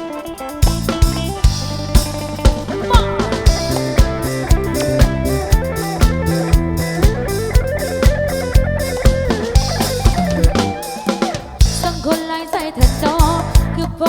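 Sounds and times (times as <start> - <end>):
drum kit steady beat: 0.0 - 14.0
electric guitar melody: 0.0 - 14.0.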